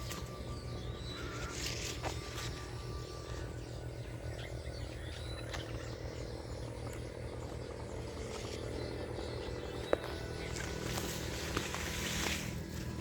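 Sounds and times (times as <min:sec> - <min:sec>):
faint bird chirps: 0:00.0 - 0:12.6
steady low rumble: 0:00.0 - 0:13.0.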